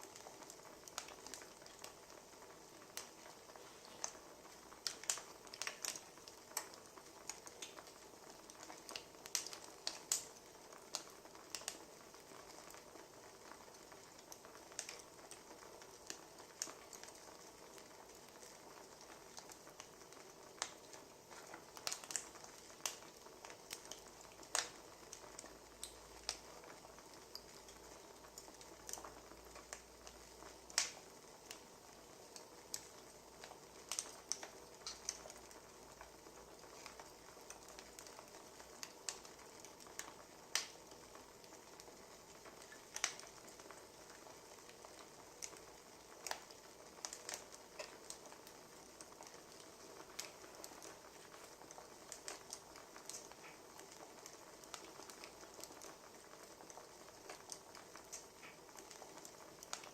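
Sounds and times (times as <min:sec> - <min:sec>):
firewood crackling: 0:00.0 - 0:59.9.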